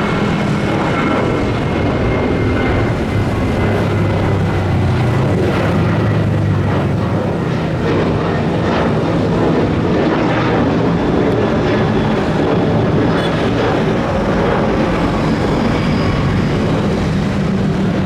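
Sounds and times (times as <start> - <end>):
airliner engines running: 0.0 - 18.0.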